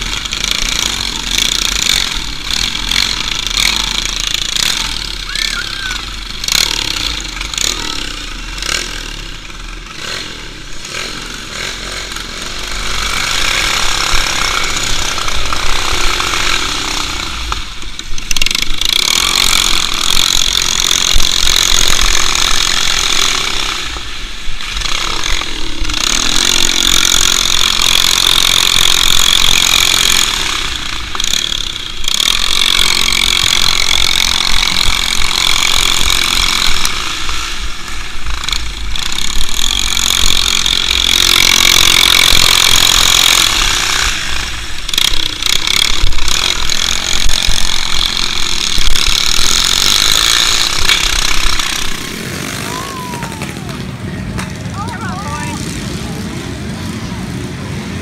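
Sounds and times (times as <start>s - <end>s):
small engine running hard: 0.0s - 58.0s.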